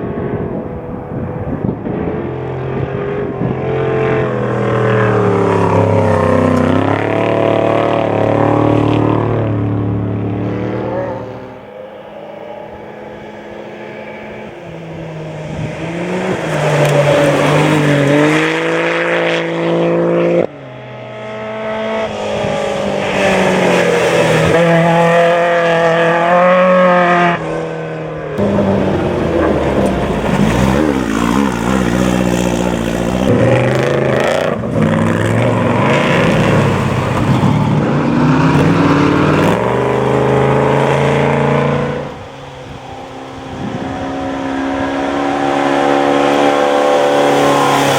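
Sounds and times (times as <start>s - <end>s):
off-road race vehicles speeding past: 0.0s - 47.9s.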